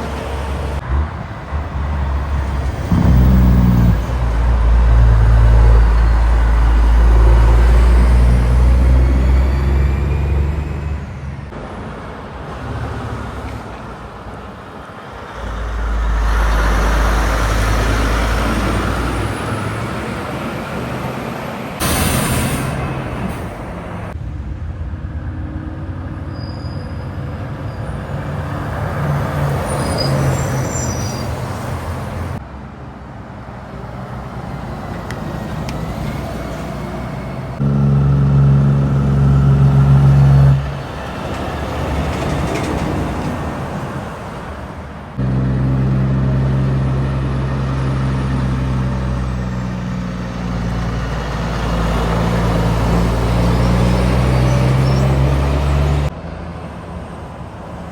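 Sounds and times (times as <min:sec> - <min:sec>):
heavy trucks passing: 0:00.0 - 0:57.9.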